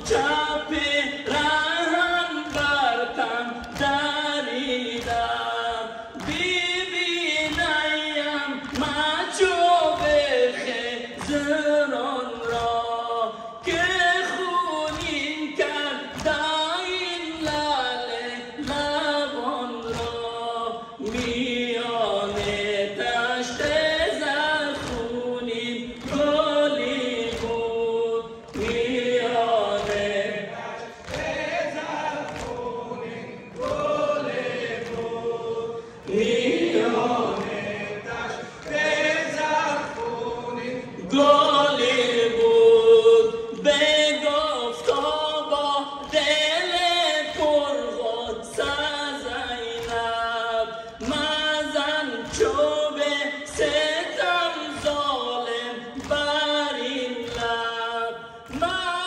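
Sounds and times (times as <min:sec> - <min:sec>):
mourners chanting a lament: 0:00.0 - 0:59.0.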